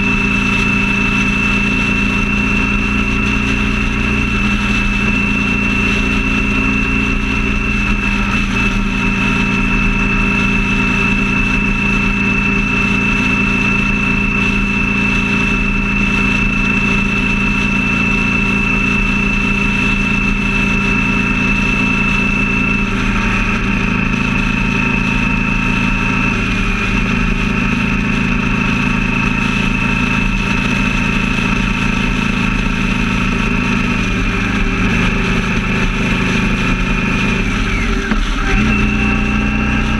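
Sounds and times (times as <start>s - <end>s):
road noise: 0.0s - 39.9s
vehicle engine cruising: 0.0s - 39.9s.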